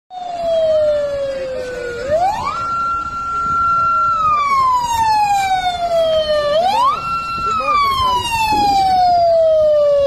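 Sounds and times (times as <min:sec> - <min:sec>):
passing traffic: 0:00.1 - 0:10.0
siren wailing: 0:00.1 - 0:10.0.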